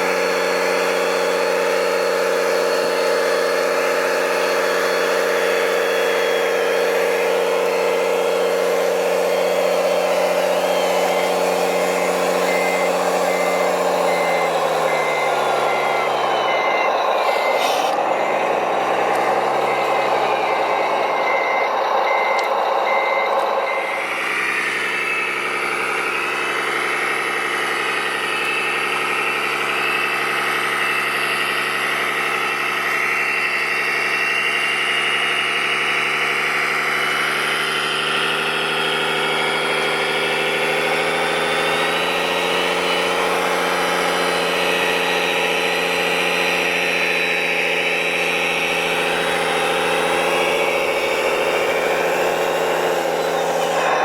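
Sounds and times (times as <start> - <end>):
construction machine engine running: 0.0 - 54.0
reversing alarm beeping: 0.0 - 54.0.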